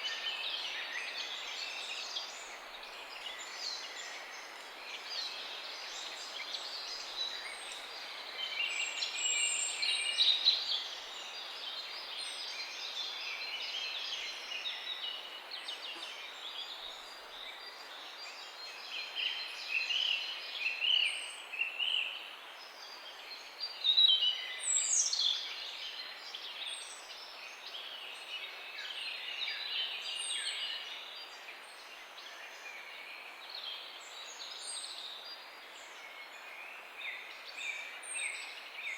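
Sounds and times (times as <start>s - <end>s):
steady outdoor hiss: 0.0s - 38.9s.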